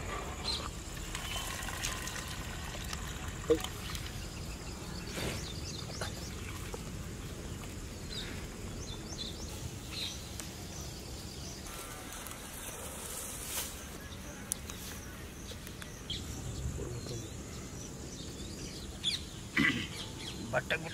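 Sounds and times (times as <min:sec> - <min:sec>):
outdoor background noise: 0:00.0 - 0:20.9
small birds chirping: 0:03.0 - 0:20.9.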